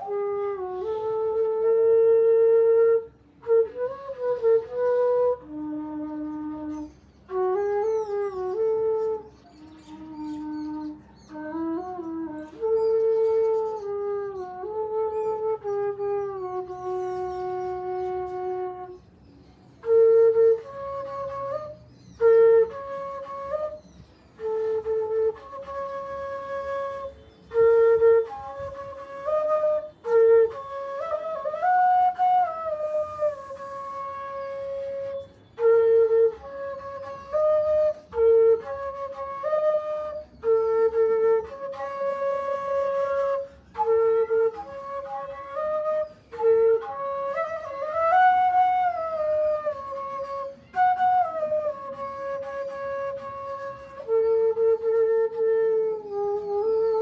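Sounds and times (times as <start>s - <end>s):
solo flute melody: 0.0s - 57.0s.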